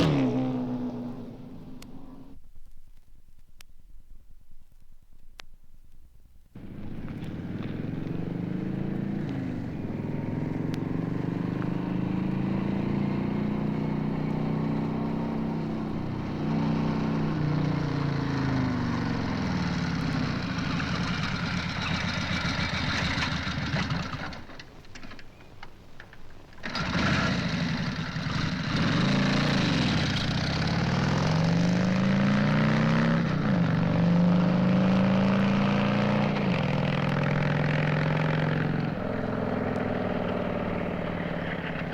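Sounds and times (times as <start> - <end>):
motorcycle engine revving: 0.0 - 2.4, 6.6 - 24.5, 26.6 - 41.9.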